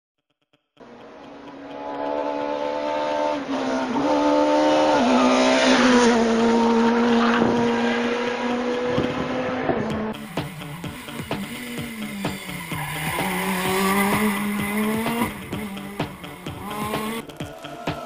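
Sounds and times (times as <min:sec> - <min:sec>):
rally car engine revving high: 0:00.8 - 0:18.0.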